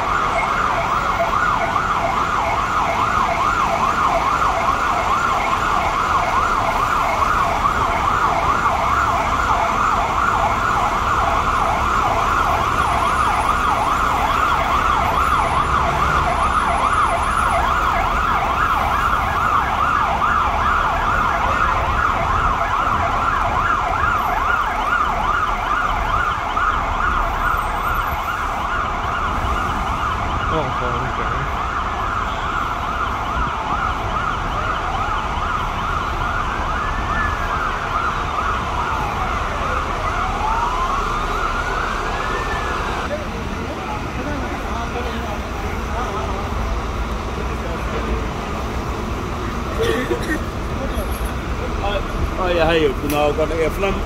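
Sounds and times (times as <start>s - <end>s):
emergency sirens wailing: 0.0s - 54.0s
engines and traffic rumble: 0.0s - 54.0s.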